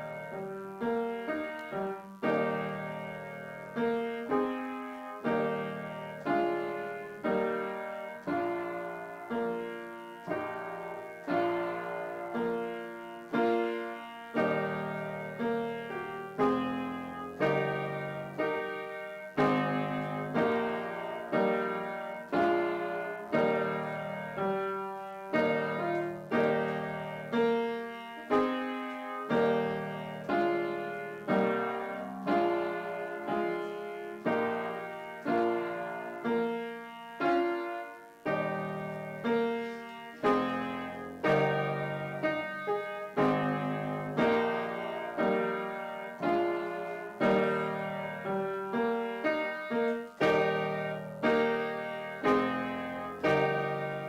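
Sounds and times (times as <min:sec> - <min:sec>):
slow piano chords: 0:00.0 - 0:54.0.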